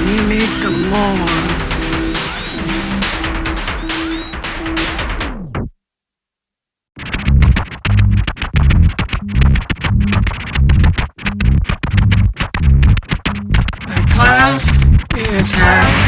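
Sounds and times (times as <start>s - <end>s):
electronic music: 0.0s - 5.7s, 7.0s - 16.0s
synthesizer and drum machine track: 0.0s - 5.7s, 7.0s - 16.0s.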